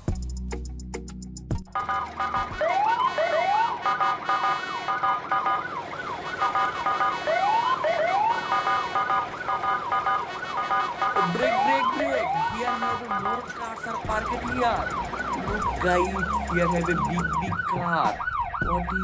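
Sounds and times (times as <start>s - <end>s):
toy siren wailing: 1.8s - 19.0s.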